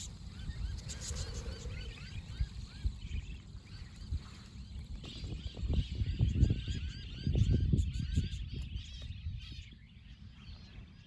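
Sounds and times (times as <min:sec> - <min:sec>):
budgerigars chirping: 0:00.0 - 0:10.6.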